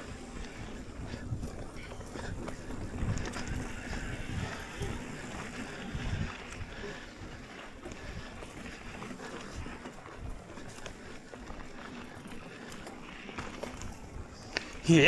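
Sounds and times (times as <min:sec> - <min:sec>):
wind buffeting microphone: 0:00.0 - 0:12.4
bike clicks and rattles: 0:00.0 - 0:15.0
bike tyres on dirt: 0:00.0 - 0:15.0.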